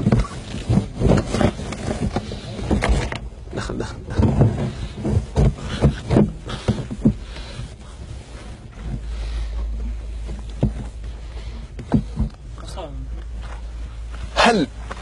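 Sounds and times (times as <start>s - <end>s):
muffled thumps and scuffs: 0.0s - 15.0s.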